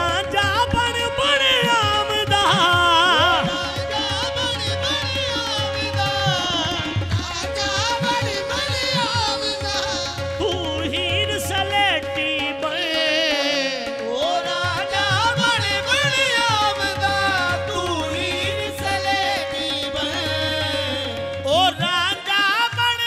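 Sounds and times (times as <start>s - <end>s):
harmonium held note: 0.0s - 23.0s.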